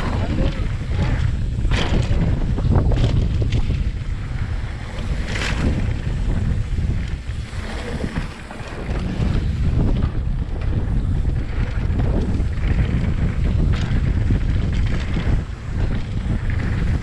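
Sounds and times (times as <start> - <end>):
tyres rolling on dirt: 0.0 - 17.0
wind rumbling on microphone: 0.0 - 17.0.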